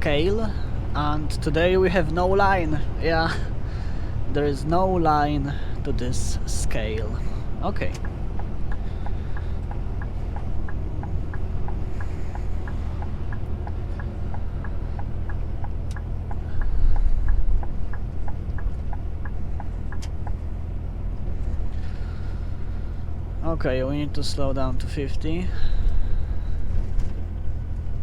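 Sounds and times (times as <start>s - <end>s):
engine and road rumble: 0.0s - 28.0s
turn signal ticking: 0.0s - 28.0s.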